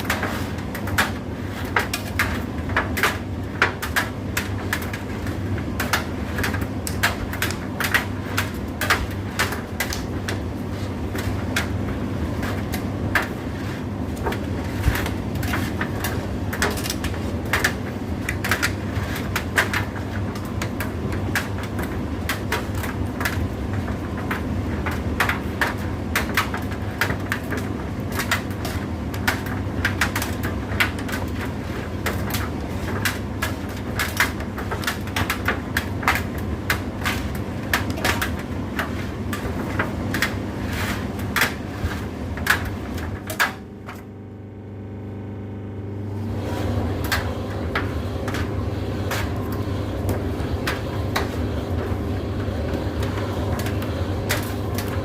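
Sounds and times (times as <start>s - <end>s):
clicks and knocks in dryer: 0.0s - 44.1s
tumble dryer running: 0.0s - 55.0s.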